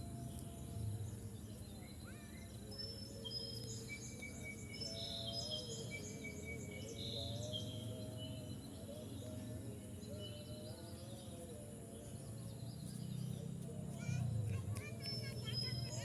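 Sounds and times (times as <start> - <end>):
birds whistling and chirping: 0.0 - 14.0, 14.8 - 16.0.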